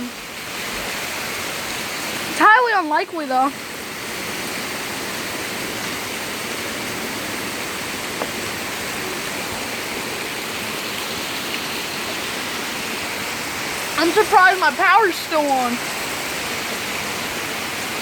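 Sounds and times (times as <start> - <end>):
heavy rain pouring: 0.0 - 18.0
wind: 0.0 - 18.0.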